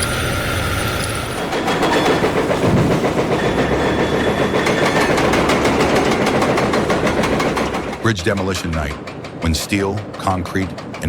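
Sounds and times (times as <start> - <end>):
heavy machinery running: 0.0 - 11.0
rapid metallic clatter: 0.0 - 11.0.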